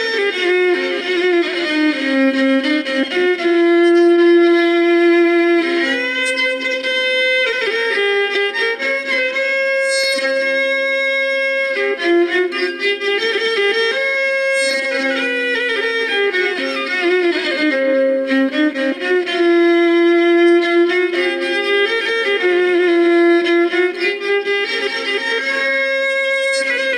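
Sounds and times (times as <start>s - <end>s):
electric violin slow melody: 0.0s - 26.9s.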